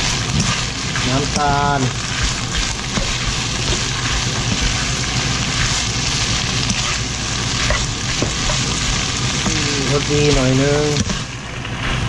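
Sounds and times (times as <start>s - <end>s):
food sizzling in a frying pan: 0.0s - 12.0s
spatula scraping a pan: 0.0s - 12.0s.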